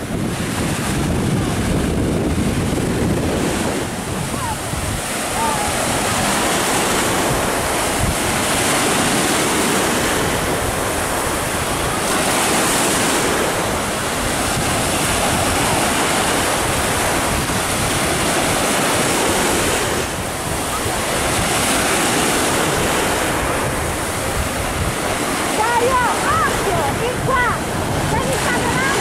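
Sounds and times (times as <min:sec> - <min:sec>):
surf breaking on shore: 0:00.0 - 0:29.0
wind buffeting microphone: 0:00.0 - 0:29.0.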